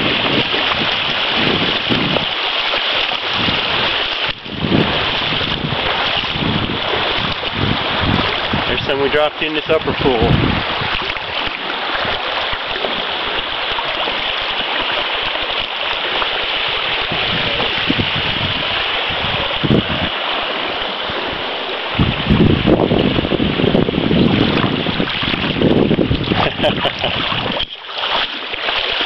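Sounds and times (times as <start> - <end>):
creek water babbling over gravel: 0.0 - 29.0.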